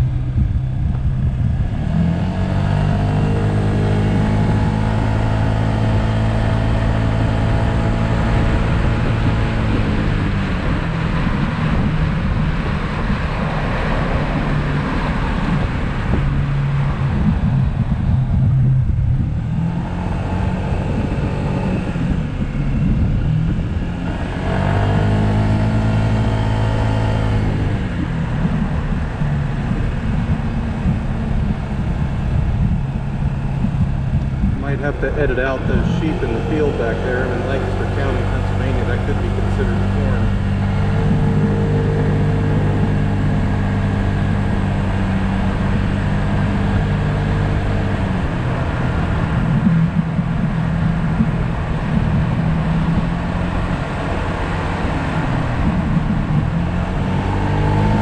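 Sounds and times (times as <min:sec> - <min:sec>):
scooter engine running: 0:00.0 - 0:58.0
wind and road noise: 0:00.0 - 0:58.0.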